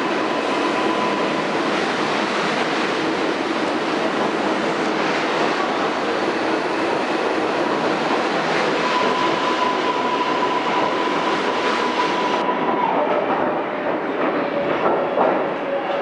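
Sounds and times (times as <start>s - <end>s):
high train whine: 0.0s - 16.0s
subway train rumbling and rattling: 0.0s - 16.0s.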